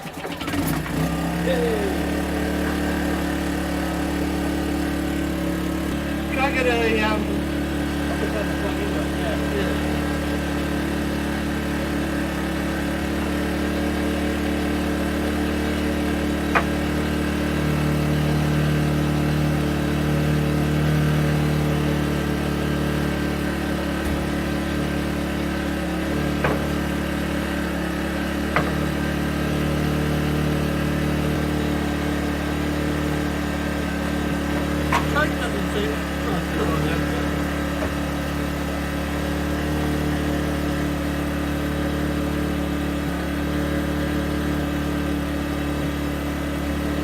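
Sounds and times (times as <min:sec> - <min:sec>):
generator engine running: 0:00.0 - 0:47.0.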